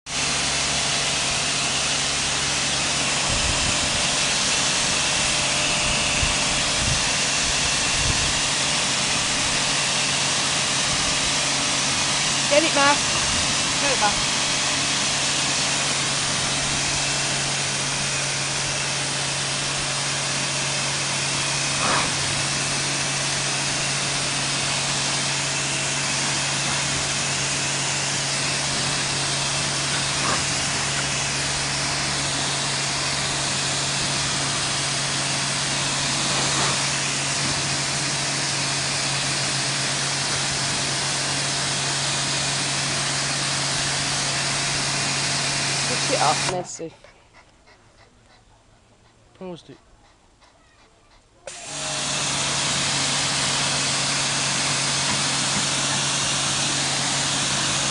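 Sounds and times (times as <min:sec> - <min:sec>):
high-pressure water jet hissing: 0:00.1 - 0:46.9, 0:51.5 - 0:57.9
pressure washer pump humming: 0:00.1 - 0:47.0, 0:51.4 - 0:57.9.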